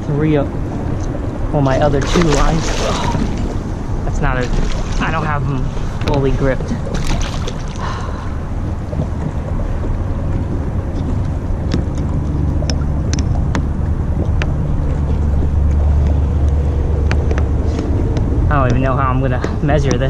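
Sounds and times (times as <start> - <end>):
low motor hum: 0.0 - 20.0
wind buffeting microphone: 0.0 - 20.0.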